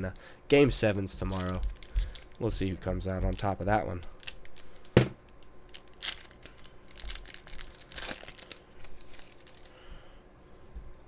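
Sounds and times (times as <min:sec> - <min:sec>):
foil wrapper crinkling and tearing: 0:00.8 - 0:09.9.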